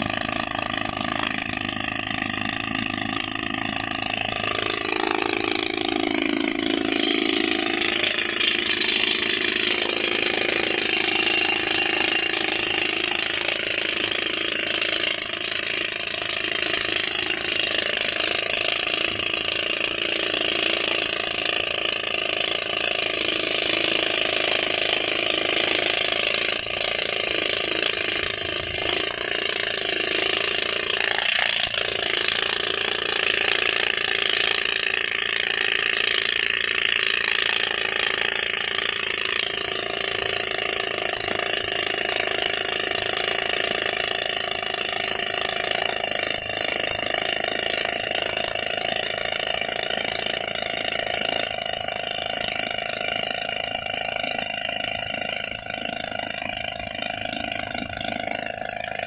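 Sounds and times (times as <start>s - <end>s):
pneumatic rock drill hammering: 0.0s - 59.0s.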